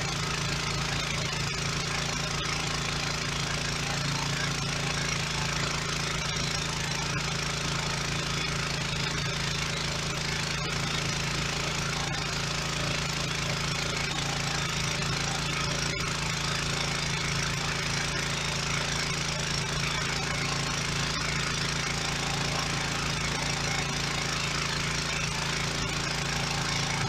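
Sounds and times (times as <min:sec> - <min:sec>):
pressure washer humming: 0:00.0 - 0:27.0.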